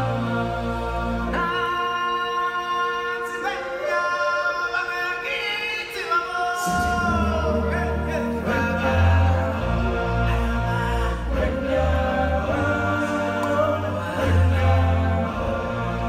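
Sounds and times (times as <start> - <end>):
stage show music: 0.0 - 16.0
voices singing held notes: 0.0 - 16.0.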